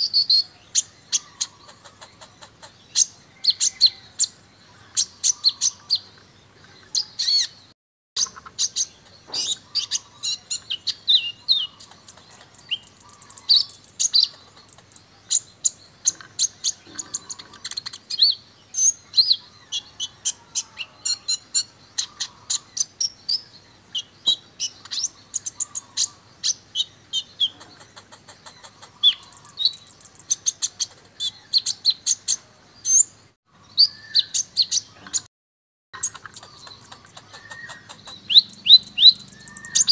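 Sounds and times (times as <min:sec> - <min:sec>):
bird singing fast chirps and trills: 0:00.0 - 0:35.3, 0:36.0 - 0:39.9.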